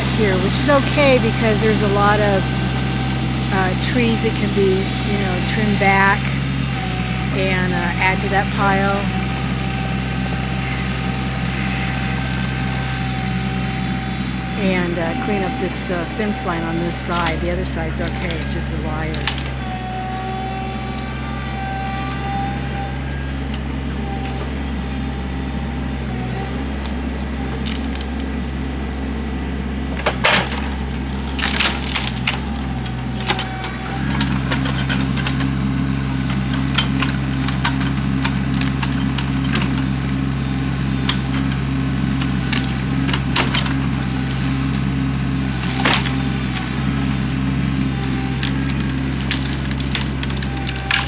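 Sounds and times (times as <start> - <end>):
excavator engine running: 0.0 - 51.0
trees cracking and splintering: 0.0 - 51.0.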